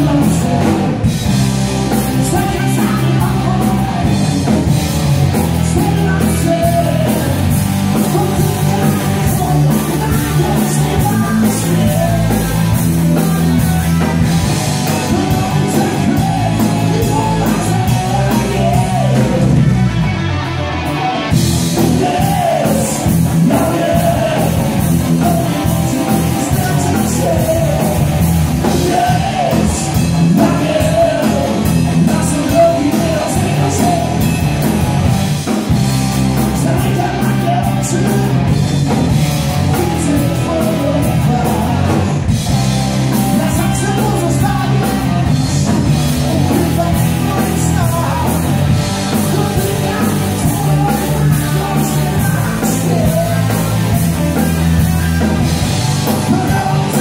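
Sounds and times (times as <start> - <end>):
man singing: 0.0 - 19.9, 21.6 - 34.8, 36.3 - 42.3, 43.1 - 57.0
hard rock band playing live: 0.0 - 57.0.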